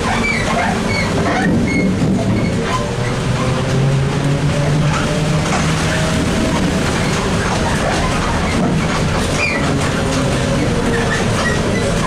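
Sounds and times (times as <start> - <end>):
road noise: 0.0 - 12.0
trolleybus drive hum: 0.0 - 12.0.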